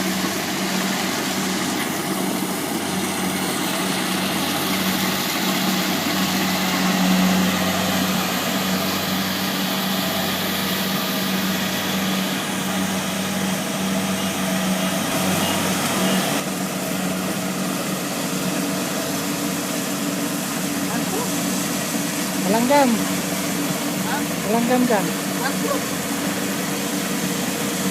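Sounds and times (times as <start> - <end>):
diesel engine droning: 0.0 - 27.9.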